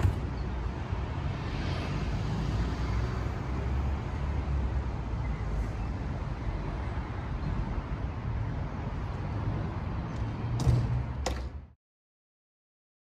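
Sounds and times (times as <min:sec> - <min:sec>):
road traffic rumble: 0:00.0 - 0:11.8.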